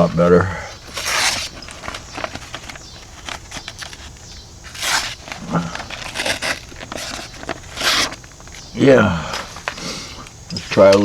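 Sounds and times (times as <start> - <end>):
knife cutting paper: 0.0 - 11.0
paper crackling and rustling: 0.0 - 11.0.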